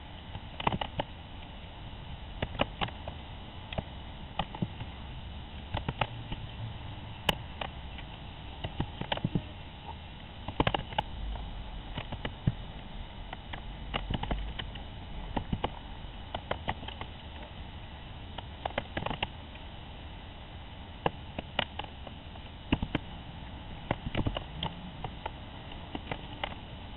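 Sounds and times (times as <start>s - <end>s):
steady hiss: 0.0s - 26.9s.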